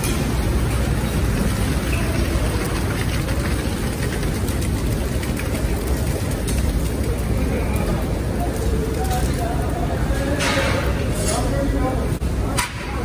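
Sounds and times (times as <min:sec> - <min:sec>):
kitchen machinery rumble: 0:00.0 - 0:13.0.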